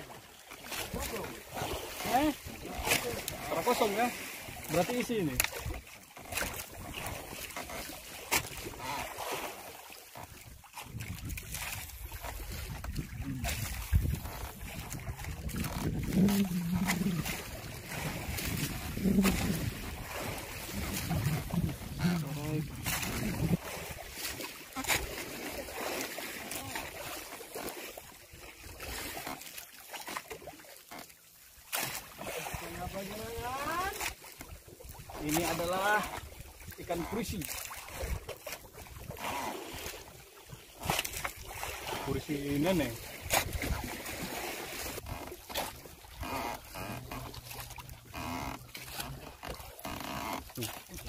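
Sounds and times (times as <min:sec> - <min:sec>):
wind and sea hiss: 0:00.0 - 0:05.8, 0:06.7 - 0:29.4, 0:31.9 - 0:45.3
water sloshing against boat hull: 0:00.0 - 0:51.0.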